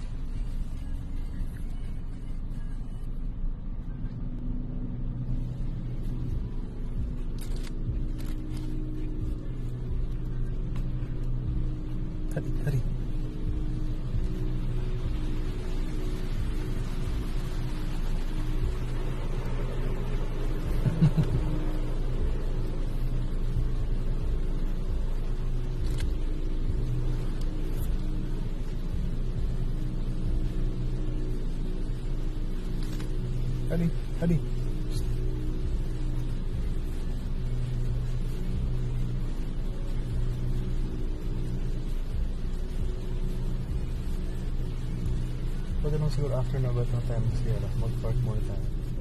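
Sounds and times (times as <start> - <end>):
muffled car wash rumble: 0.0 - 49.0
steady hum: 0.0 - 49.0.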